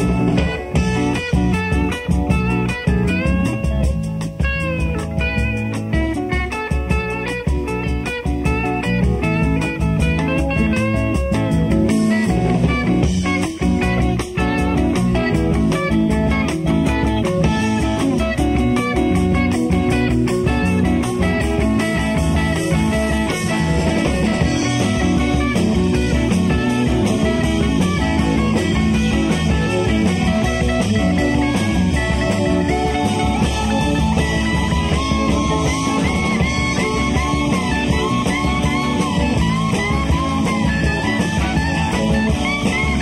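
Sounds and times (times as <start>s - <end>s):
lead guitar bending notes: 0.0s - 43.0s
rock band playing: 0.0s - 43.0s.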